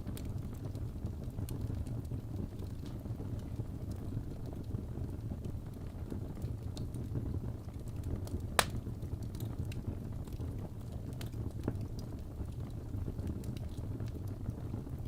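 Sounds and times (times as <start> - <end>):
fire crackling: 0.0 - 15.0
fire flames rumbling: 0.0 - 15.0.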